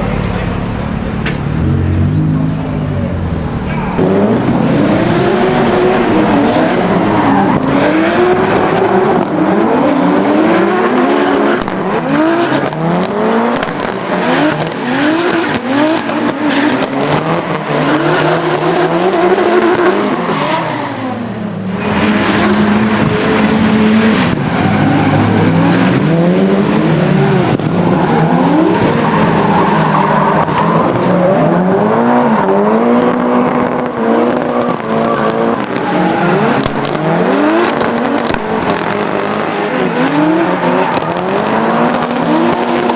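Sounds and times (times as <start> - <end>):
tyres squealing and skidding: 0.0 - 22.9, 24.4 - 25.9, 27.8 - 32.7, 33.5 - 42.9
car engine revving: 0.0 - 42.9.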